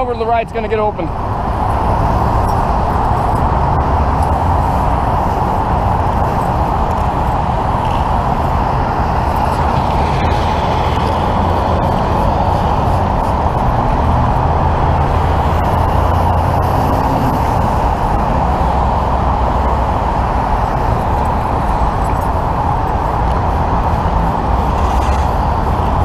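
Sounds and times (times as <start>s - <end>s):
freeway traffic engine rumble: 0.0s - 26.0s.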